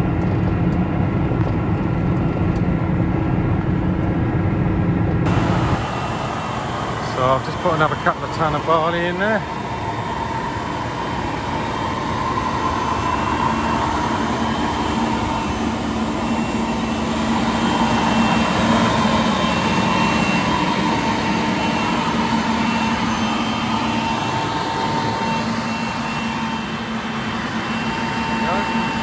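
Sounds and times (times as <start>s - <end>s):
seed fan whine: 0.0s - 29.0s
tractor engine drone: 0.0s - 29.0s.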